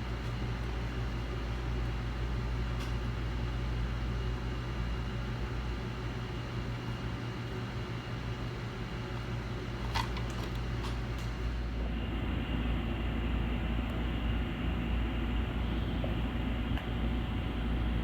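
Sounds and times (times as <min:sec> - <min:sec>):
machine hum and hiss: 0:00.0 - 0:18.0.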